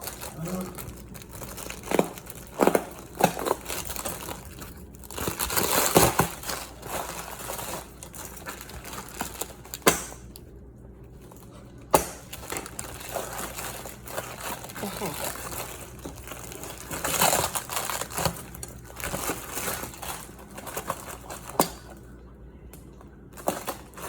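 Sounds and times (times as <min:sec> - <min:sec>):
packaging crinkling and tearing: 0:00.0 - 0:22.2, 0:23.2 - 0:24.0.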